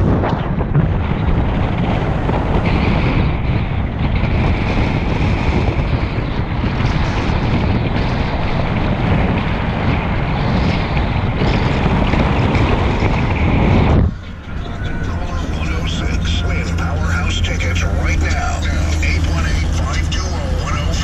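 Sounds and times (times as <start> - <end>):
car road and engine noise: 0.0 - 21.0
wind buffeting microphone: 0.0 - 21.0.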